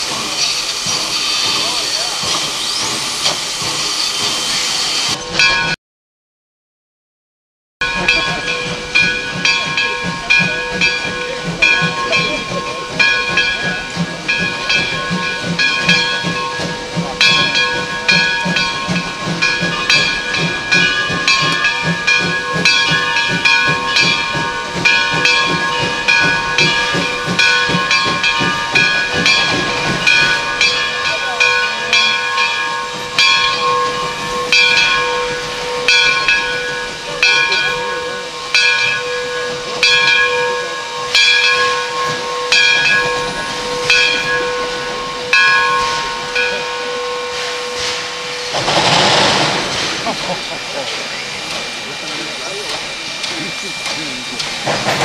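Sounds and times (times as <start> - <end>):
pulsing steam hiss: 0.0 - 5.3, 8.0 - 55.0
steam locomotive whistles: 0.0 - 5.8, 7.8 - 55.0.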